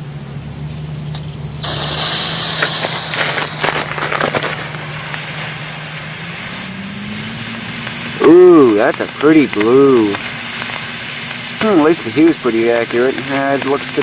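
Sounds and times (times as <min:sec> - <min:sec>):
sharp crackles: 0:00.9 - 0:14.0
smoke firework hissing: 0:01.6 - 0:14.0.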